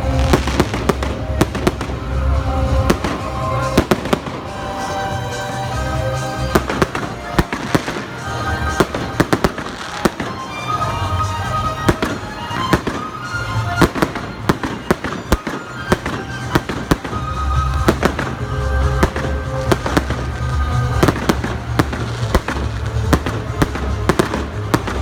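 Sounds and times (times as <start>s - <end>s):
music with pulsing bass: 0.0s - 9.9s, 12.8s - 25.0s
fireworks bangs and crackles: 0.0s - 25.0s.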